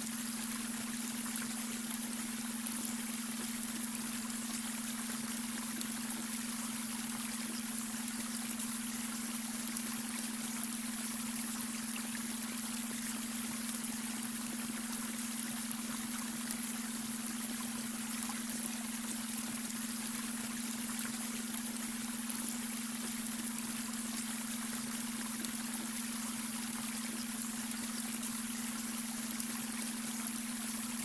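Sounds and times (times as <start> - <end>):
brook water running: 0.0 - 31.0.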